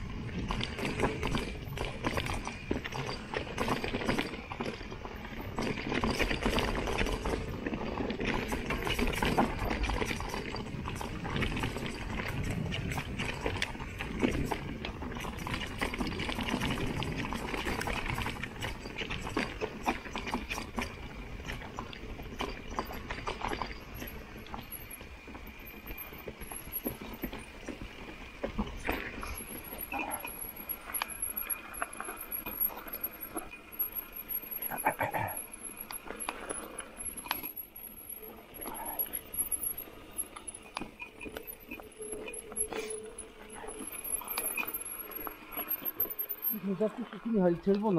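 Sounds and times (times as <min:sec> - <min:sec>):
bike rattling: 0:00.0 - 0:47.9
bike tyres rolling over loose ground: 0:00.0 - 0:47.9.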